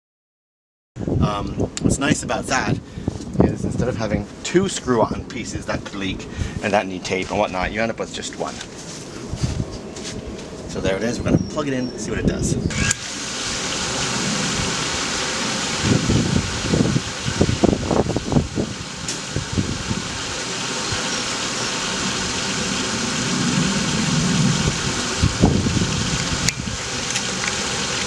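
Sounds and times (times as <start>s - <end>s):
pool pump whirring: 4.4s - 28.0s.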